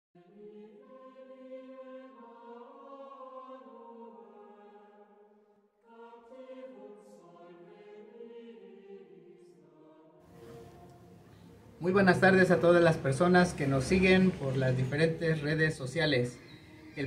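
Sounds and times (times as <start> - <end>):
choir singing chant-like notes: 0.2 - 17.0.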